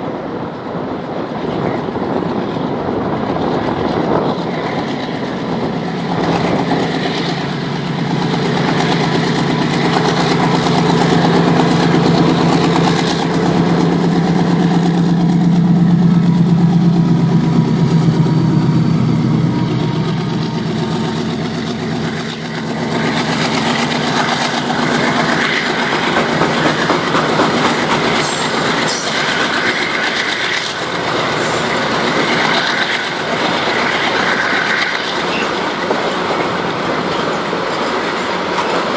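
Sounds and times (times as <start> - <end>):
locomotive engines droning: 0.0 - 38.9.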